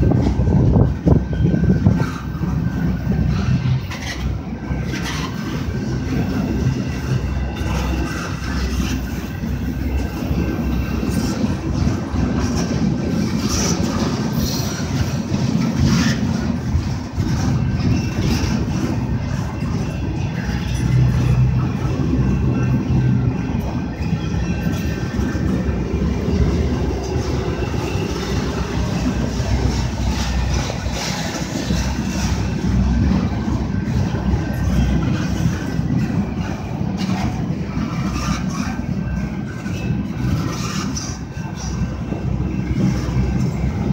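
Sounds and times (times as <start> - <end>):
train wheels rumbling and clattering: 0.0 - 43.9.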